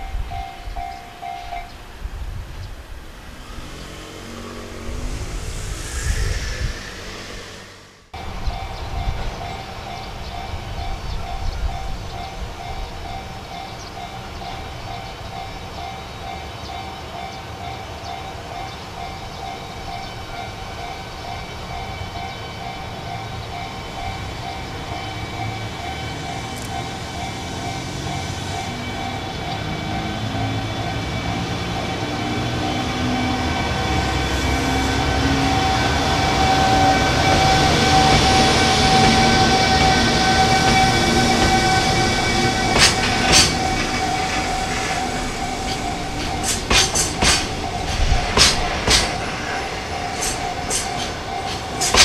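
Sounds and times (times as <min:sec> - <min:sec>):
train running and wheel noise: 0:00.0 - 0:52.0
steady high tones: 0:03.1 - 0:11.0, 0:11.9 - 0:52.0.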